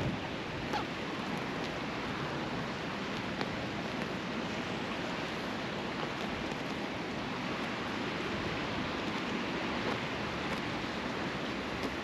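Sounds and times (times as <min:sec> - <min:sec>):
sea surf rushing: 0:00.0 - 0:12.0.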